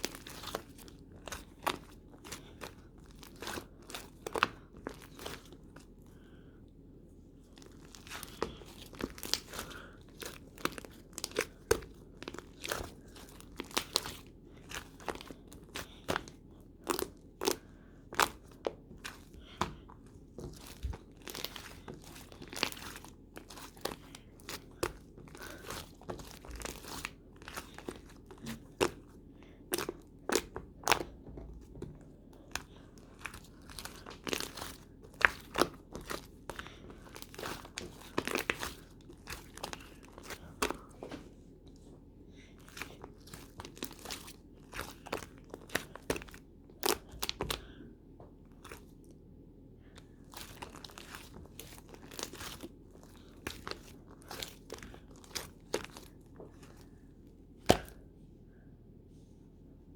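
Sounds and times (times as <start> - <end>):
crunching and crinkling: 0.0 - 6.4, 7.3 - 47.8, 48.4 - 49.2, 49.9 - 58.1.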